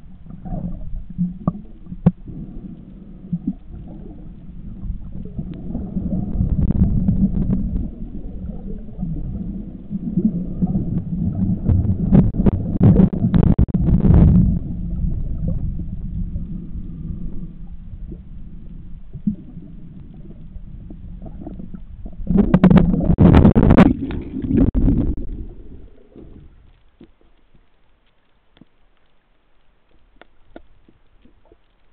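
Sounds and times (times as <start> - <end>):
bubbling and gurgling: 0.0 - 26.6
low underwater rumble: 0.0 - 31.9.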